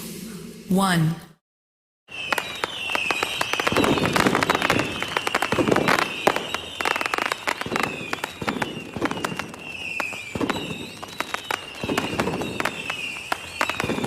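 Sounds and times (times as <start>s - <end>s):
falling firework whistles: 2.1s - 14.0s
fireworks crackling and banging: 2.1s - 14.0s.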